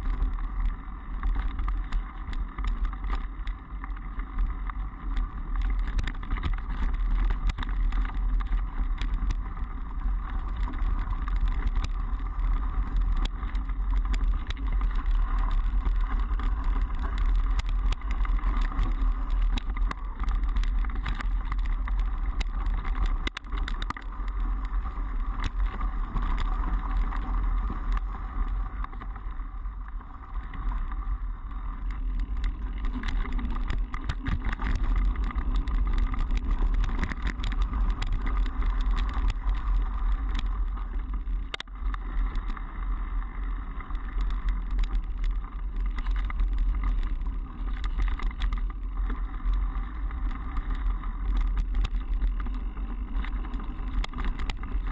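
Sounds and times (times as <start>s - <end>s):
bike rattling over bumps: 0.0s - 54.9s
wind and tyre rumble: 0.0s - 54.9s.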